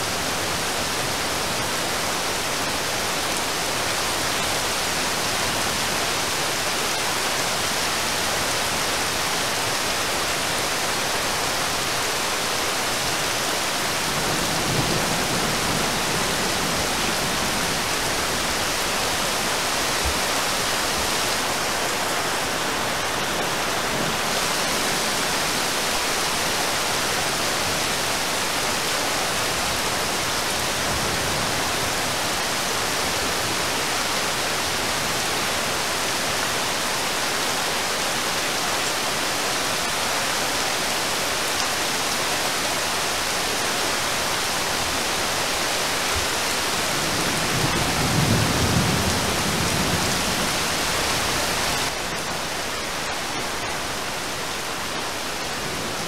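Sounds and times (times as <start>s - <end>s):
heavy rain falling on water: 0.0s - 56.0s.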